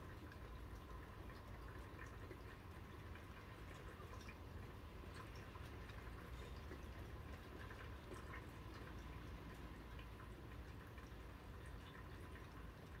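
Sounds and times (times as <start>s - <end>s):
light rain through a window: 0.0s - 13.0s.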